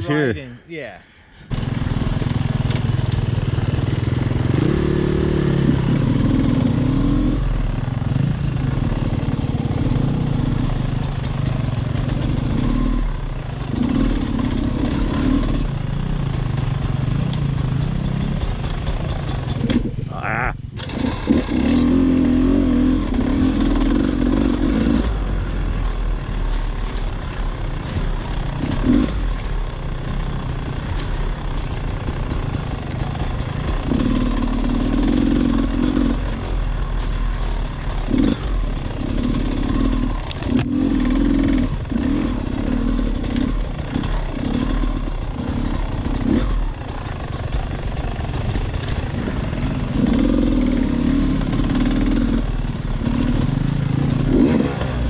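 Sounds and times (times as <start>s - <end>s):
dirt bike engine revving: 1.5s - 55.0s
clattering over rough ground: 1.8s - 21.8s, 26.2s - 55.0s.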